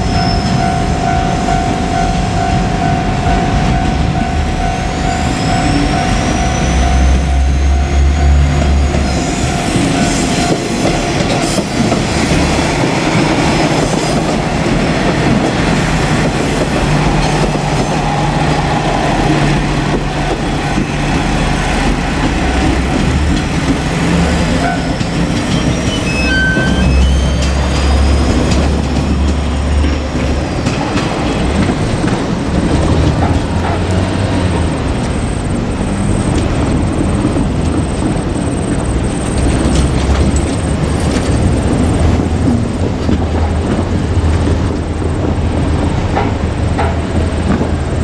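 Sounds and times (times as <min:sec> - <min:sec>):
diesel railcar rumbling past: 0:00.0 - 0:48.0.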